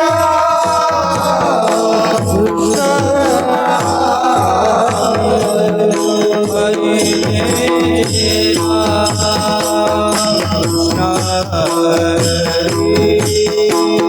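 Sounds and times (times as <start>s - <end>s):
drum beat: 0.0s - 14.0s
person singing: 0.0s - 14.0s
steady held tones: 0.0s - 14.0s.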